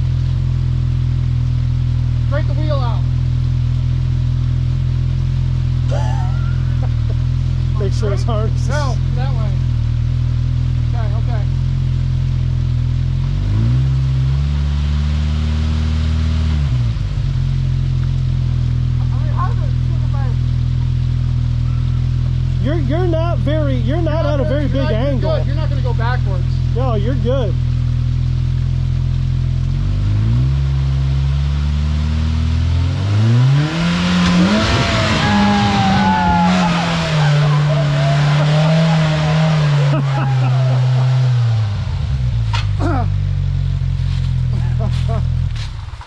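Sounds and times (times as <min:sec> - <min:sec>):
engine revving and idling: 0:00.0 - 0:46.0.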